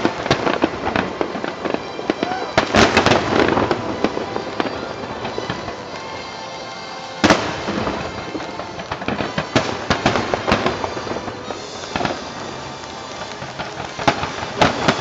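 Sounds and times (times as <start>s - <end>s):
firework bangs: 0.0s - 15.0s
firework shells bursting: 0.0s - 15.0s
fireworks crackling: 0.0s - 15.0s.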